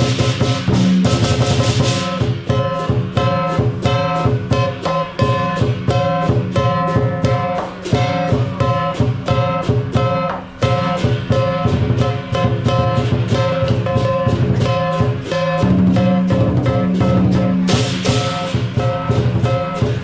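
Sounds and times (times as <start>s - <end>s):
fast drum beat music: 0.0s - 20.0s.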